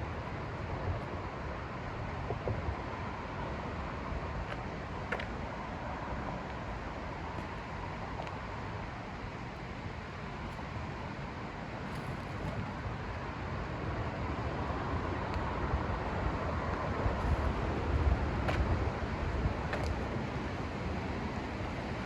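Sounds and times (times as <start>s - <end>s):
rushing outdoor noise: 0.0s - 22.0s.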